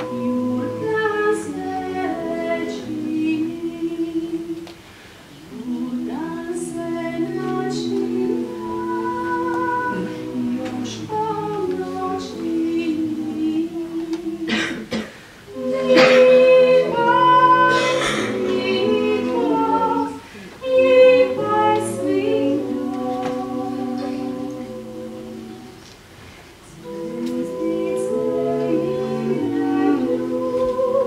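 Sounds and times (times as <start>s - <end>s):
vocal ensemble singing a cappella: 0.0s - 31.0s.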